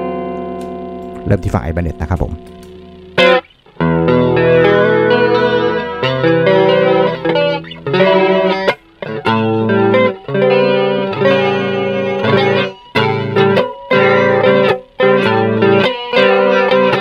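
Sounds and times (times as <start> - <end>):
electric guitar chords with chorus: 0.0 - 17.0.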